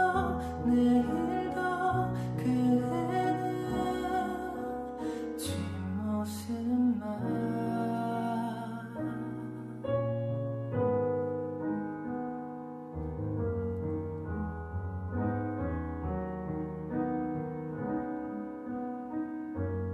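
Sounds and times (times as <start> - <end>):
piano playing slow chords: 0.0 - 19.9.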